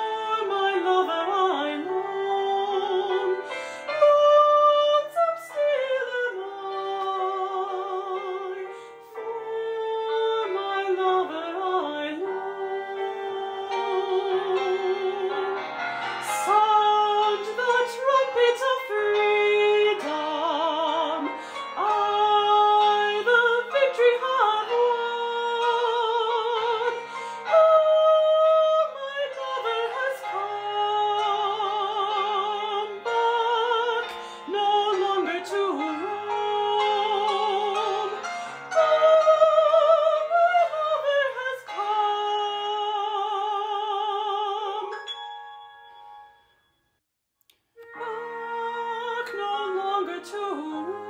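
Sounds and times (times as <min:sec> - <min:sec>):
soprano singing with vibrato: 0:00.0 - 0:45.4, 0:47.8 - 0:51.0.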